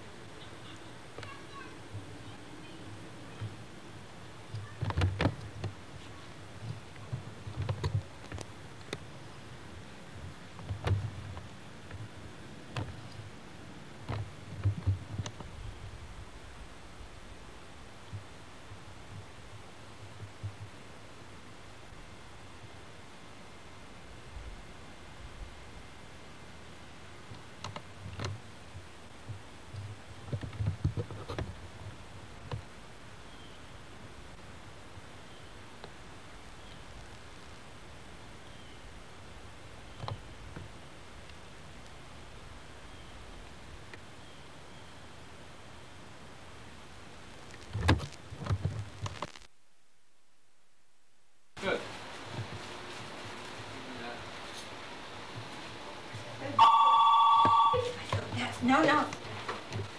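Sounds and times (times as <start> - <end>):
tape hiss: 0.0 - 59.9.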